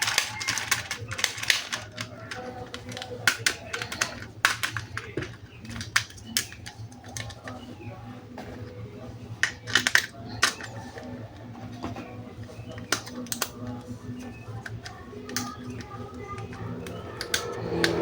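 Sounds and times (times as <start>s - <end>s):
plastic toy parts clicking: 0.0s - 7.6s, 9.4s - 11.2s, 12.6s - 18.0s
faint background music: 0.0s - 18.0s.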